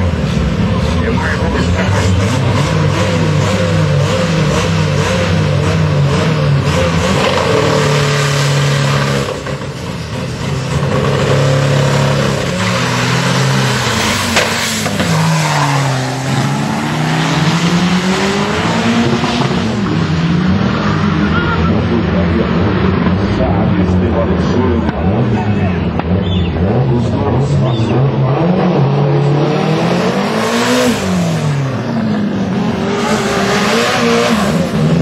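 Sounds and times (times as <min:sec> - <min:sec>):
cars accelerating away: 0:00.0 - 0:35.0
racing car engines revving: 0:00.0 - 0:35.0.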